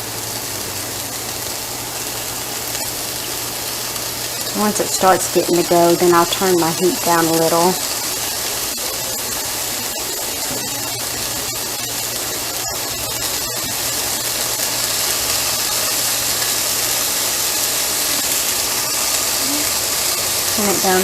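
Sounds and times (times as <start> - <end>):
onions sizzling in frying pan: 0.0 - 21.0.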